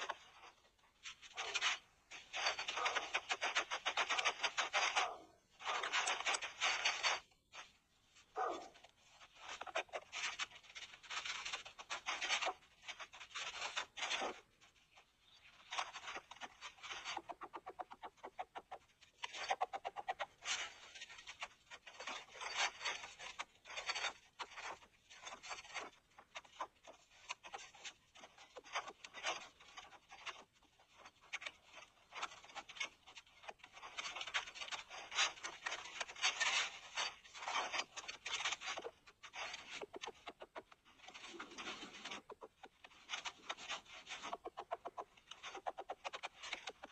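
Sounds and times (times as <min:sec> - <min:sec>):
rubbing and scraping: 0:00.0 - 0:46.9.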